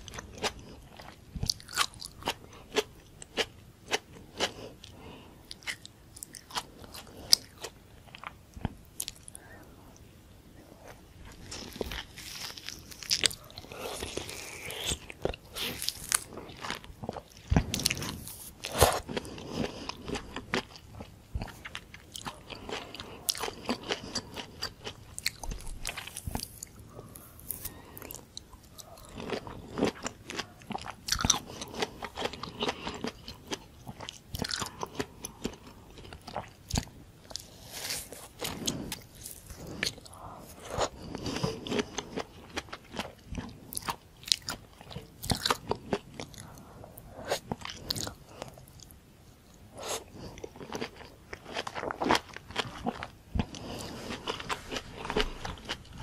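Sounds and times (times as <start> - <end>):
biting and chewing: 0.0 - 9.3, 11.2 - 56.0.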